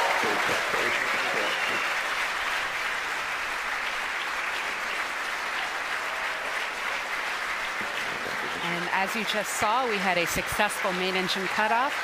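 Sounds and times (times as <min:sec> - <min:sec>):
crowd applauding and cheering: 0:00.0 - 0:12.0.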